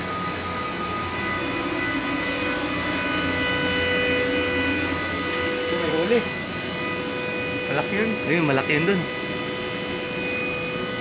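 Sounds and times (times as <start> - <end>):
machine room hum: 0.0 - 11.0
steady pitched machine tones: 0.0 - 11.0.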